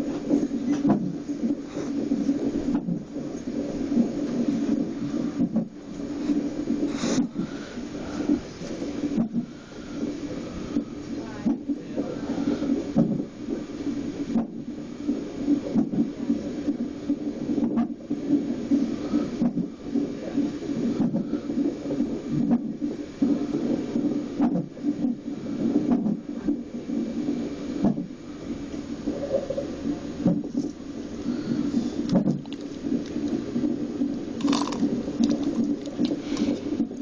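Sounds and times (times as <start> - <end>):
fetal heartbeat whooshing: 0.0 - 37.0.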